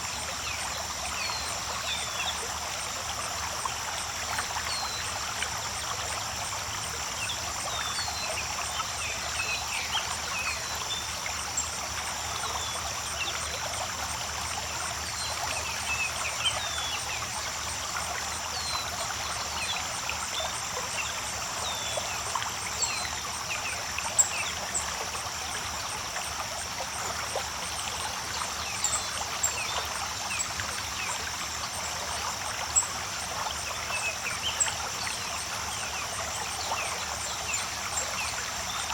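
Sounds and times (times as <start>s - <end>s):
creek water babbling over rocks: 0.0s - 38.9s.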